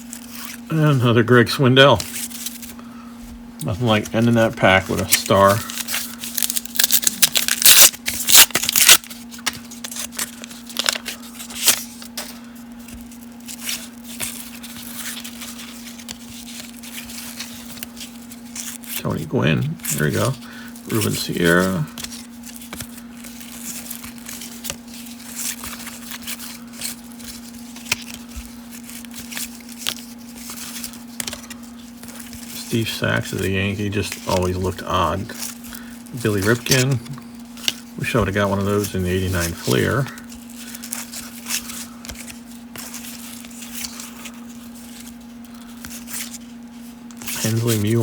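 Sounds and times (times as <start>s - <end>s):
steady low hum: 0.0s - 48.0s
cards being flipped through: 1.8s - 2.8s, 3.6s - 48.0s.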